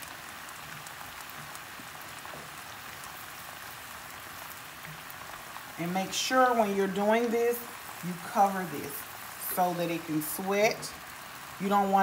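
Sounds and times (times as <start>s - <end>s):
onions sizzling in skillet: 0.0s - 12.0s.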